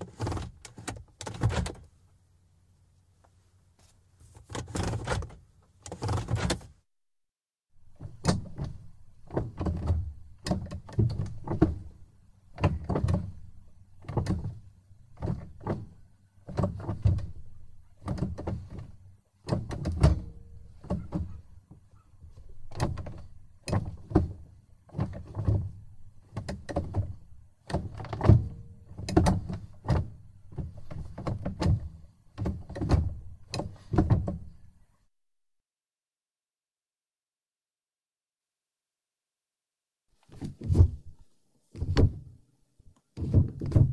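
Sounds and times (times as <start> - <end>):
gear shifter clunks and clicks: 0.0 - 1.9, 3.2 - 6.7, 7.9 - 34.7, 40.2 - 42.4, 43.0 - 43.9.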